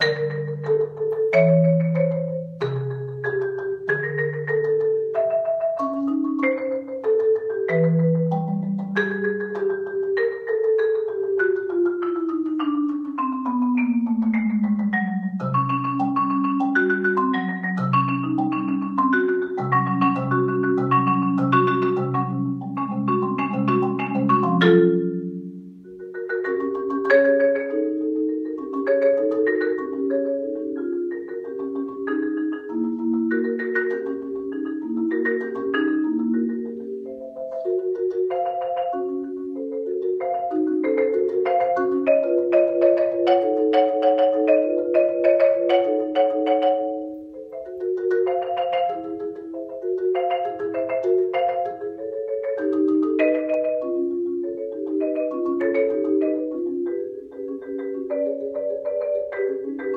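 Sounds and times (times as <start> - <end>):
marimba played with mallets: 0.0 - 59.9.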